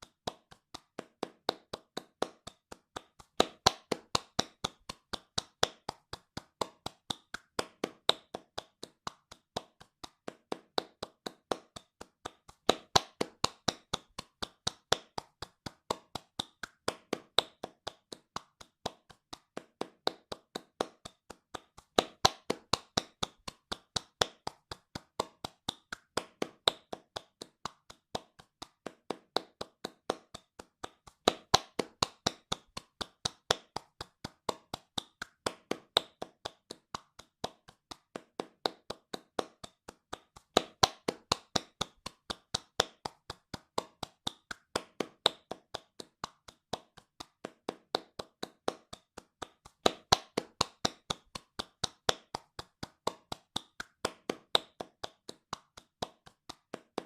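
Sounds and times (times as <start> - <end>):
hands clapping fast: 0.0 - 57.0.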